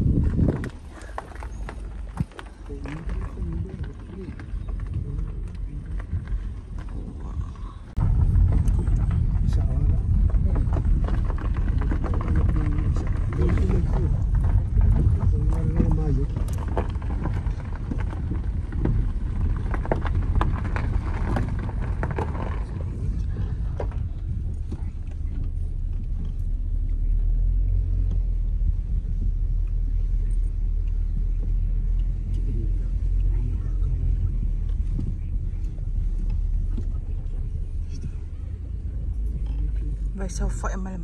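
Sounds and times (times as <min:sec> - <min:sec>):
car engine and tyres rumbling: 0:00.0 - 0:41.0.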